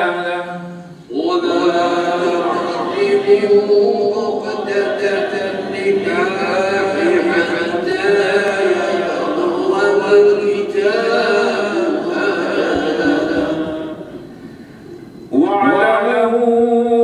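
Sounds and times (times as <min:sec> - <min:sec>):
man chanting melodically: 0:00.0 - 0:14.2, 0:15.2 - 0:17.0.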